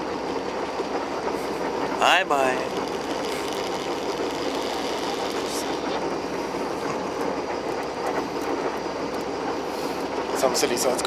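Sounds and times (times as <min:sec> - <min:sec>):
boat engine humming: 0:00.0 - 0:11.0
wash of noise: 0:00.0 - 0:11.0.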